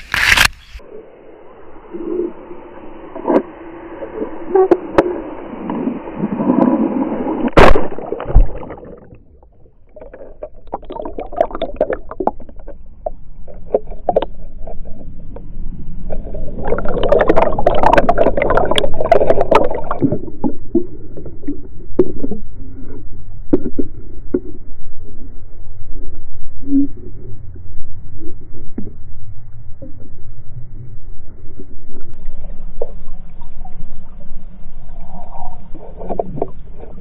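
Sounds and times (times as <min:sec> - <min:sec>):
muffled underwater water rumble: 0:00.6 - 0:37.0.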